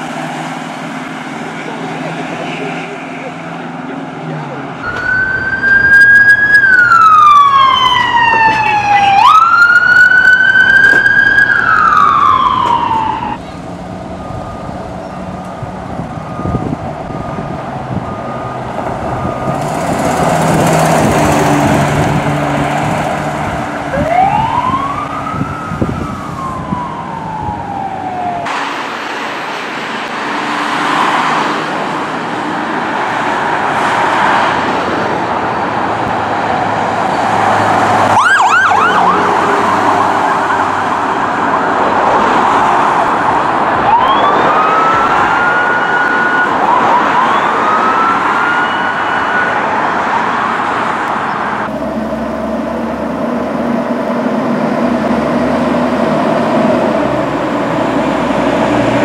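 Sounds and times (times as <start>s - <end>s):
emergency siren wailing: 0.0s - 59.0s
road traffic and engines: 0.0s - 59.0s.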